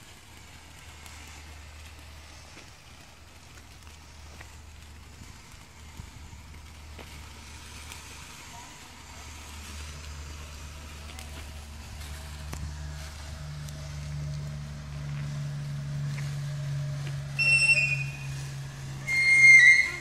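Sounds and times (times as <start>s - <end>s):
firework whistling: 0.0s - 20.0s.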